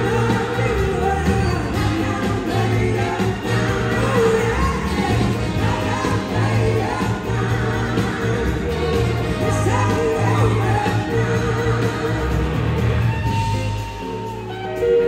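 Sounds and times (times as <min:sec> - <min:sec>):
woman singing: 0:00.0 - 0:12.8
backing singers: 0:00.0 - 0:14.2
live blues-rock band playing: 0:00.0 - 0:15.0.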